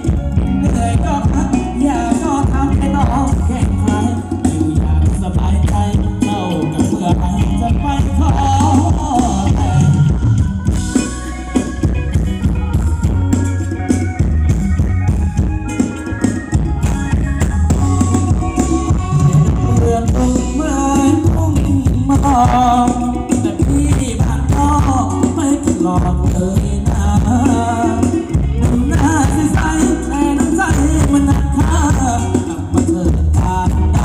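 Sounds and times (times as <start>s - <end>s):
person singing: 0.0s - 11.1s, 16.8s - 34.0s
high rattling percussion: 0.0s - 34.0s
steady drum beat: 0.0s - 34.0s.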